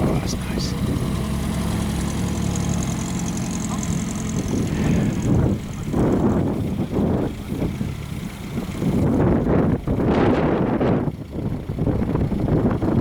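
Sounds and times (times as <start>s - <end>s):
car engine running: 0.0s - 13.0s
wind buffeting microphone: 0.0s - 13.0s.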